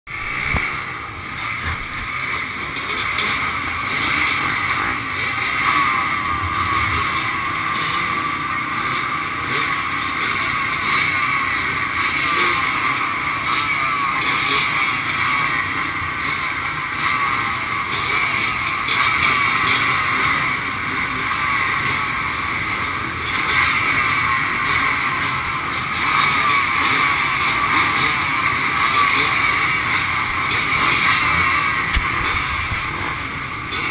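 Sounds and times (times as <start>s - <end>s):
motorcycle engines revving: 0.1s - 33.9s.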